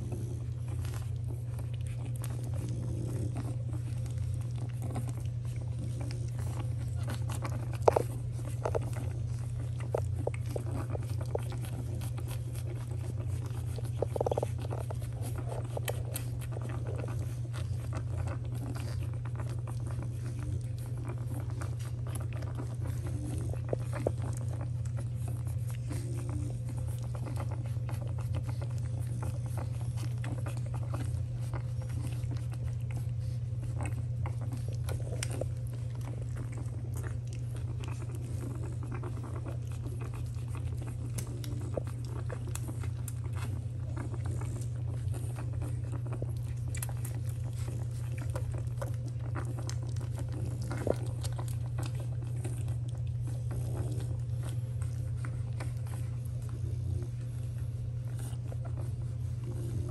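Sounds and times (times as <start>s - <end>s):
puppies suckling: 0.0s - 59.9s.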